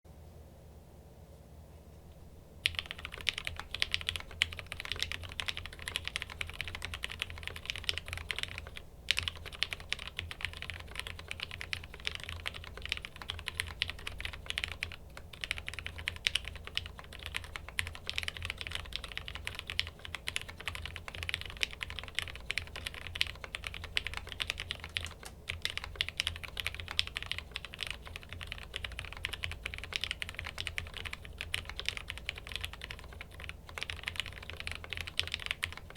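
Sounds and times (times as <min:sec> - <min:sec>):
mechanical keyboard typing: 0:02.6 - 0:35.9.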